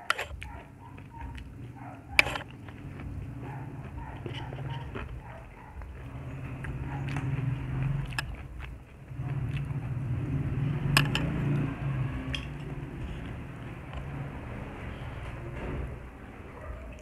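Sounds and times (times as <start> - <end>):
chewing and mouth noises: 0.0 - 14.2.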